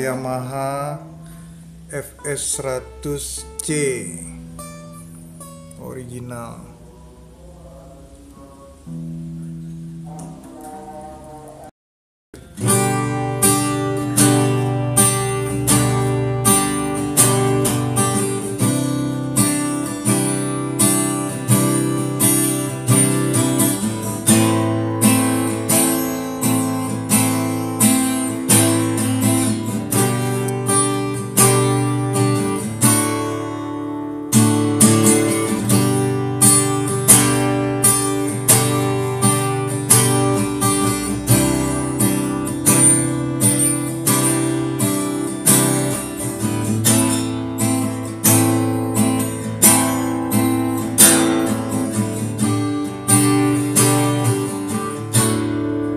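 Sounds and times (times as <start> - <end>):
acoustic guitar strumming: 0.0 - 11.7, 12.4 - 55.9.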